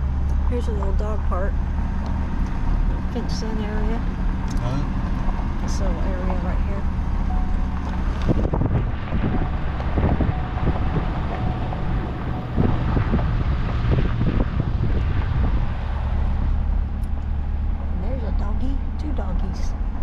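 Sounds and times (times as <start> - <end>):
vehicle engine and road hum: 0.0 - 20.0
wind buffeting microphone: 0.0 - 20.0.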